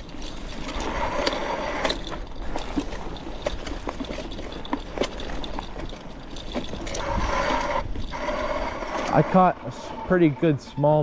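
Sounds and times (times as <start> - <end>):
bike tyres rolling over dry leaves: 0.0 - 11.0.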